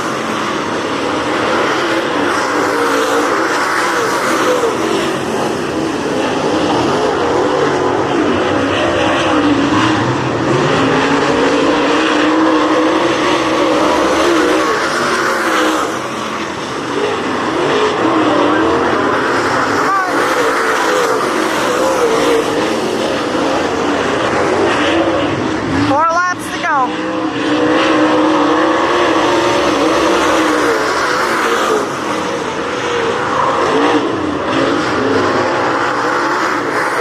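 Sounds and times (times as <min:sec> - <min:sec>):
race car engines droning: 0:00.0 - 0:37.0.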